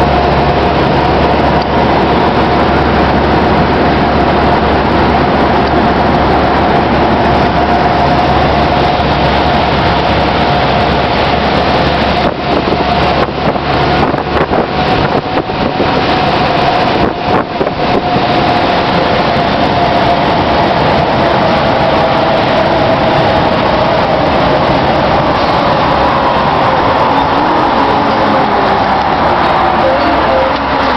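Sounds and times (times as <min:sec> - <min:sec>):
truck engine drone in cab: 0:00.0 - 0:30.9.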